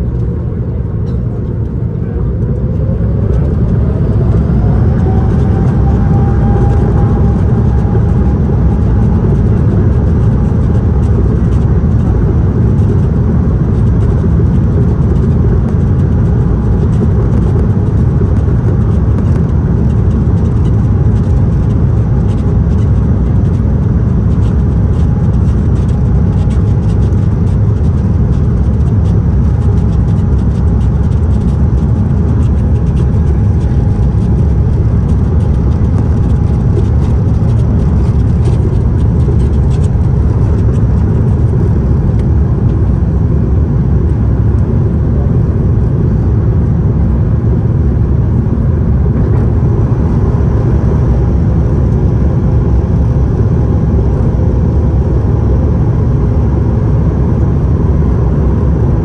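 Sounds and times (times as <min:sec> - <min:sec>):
heavy takeoff rumble: 0:00.0 - 0:59.0
jet engine whine: 0:00.0 - 0:59.0.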